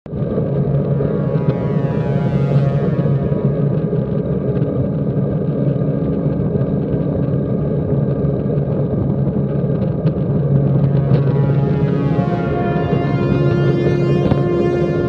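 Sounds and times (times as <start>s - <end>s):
ambient synthesizer drone: 0.1s - 6.6s, 9.2s - 15.0s.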